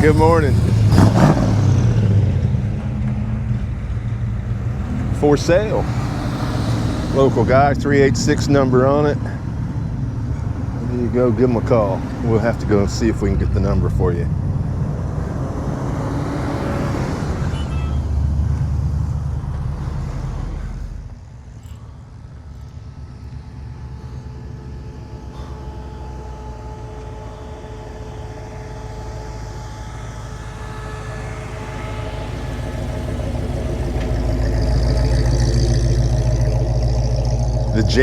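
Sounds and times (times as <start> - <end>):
cars driving past: 0.0 - 38.0.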